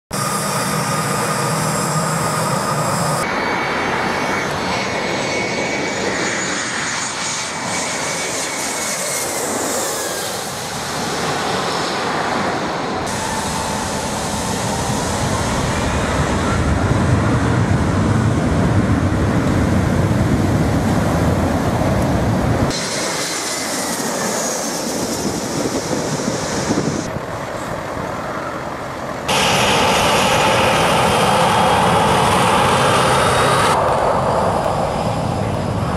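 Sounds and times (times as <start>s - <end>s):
jet engines whining: 0.1s - 35.9s.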